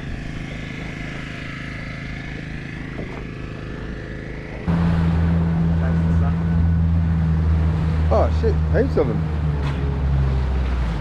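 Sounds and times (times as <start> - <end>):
deep engine sound: 0.0 - 11.0
outboard motor humming: 0.0 - 11.0.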